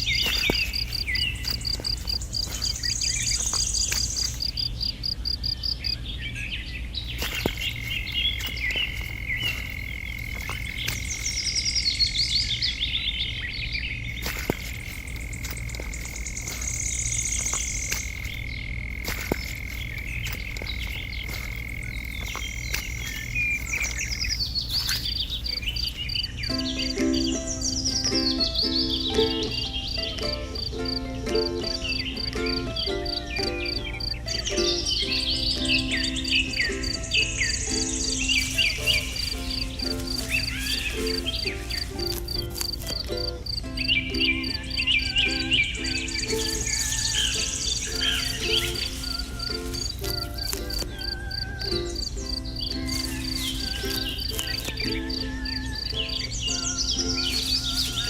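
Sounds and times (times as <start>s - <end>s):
high chirping animal calls: 0.0s - 58.0s
steady low hum: 0.0s - 58.0s.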